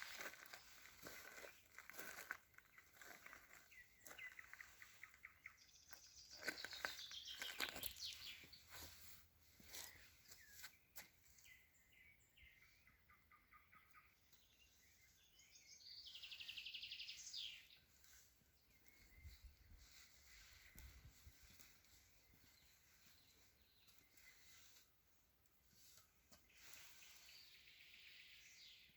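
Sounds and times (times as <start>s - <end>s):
songbirds trilling: 0.0s - 24.7s.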